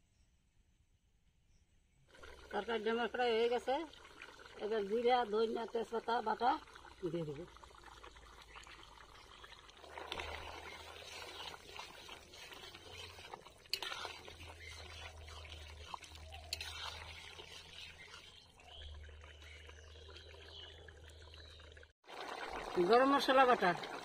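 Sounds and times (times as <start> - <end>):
curry simmering in a pan: 2.1 - 24.0.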